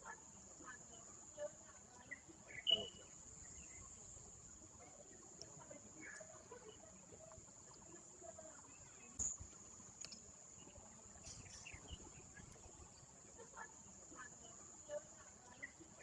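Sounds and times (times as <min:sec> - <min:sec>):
distant murmuring voices: 0:00.0 - 0:16.0.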